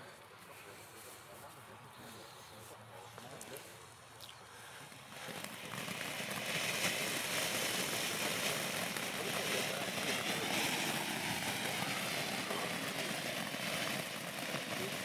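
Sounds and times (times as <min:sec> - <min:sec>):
firework fountain hissing: 0:00.0 - 0:15.0.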